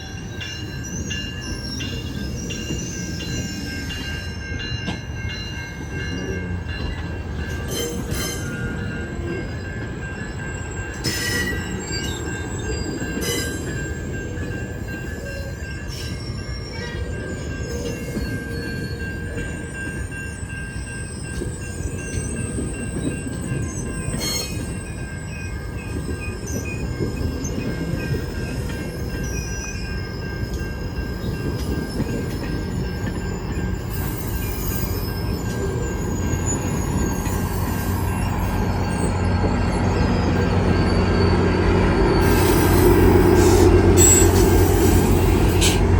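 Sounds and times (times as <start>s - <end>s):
clatter of train cars: 0.0s - 45.9s
train wheels squealing on rails: 0.0s - 45.9s.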